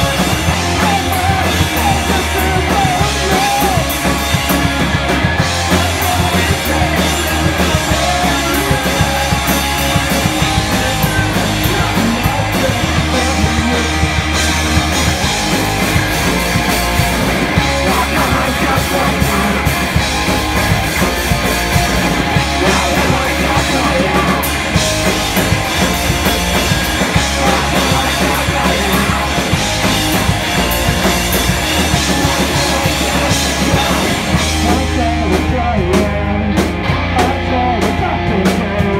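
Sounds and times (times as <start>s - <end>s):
person singing: 0.0s - 14.6s, 17.6s - 20.0s, 22.3s - 38.9s
bass guitar: 0.0s - 38.9s
drum kit: 0.0s - 38.9s
electric guitars: 0.0s - 38.9s.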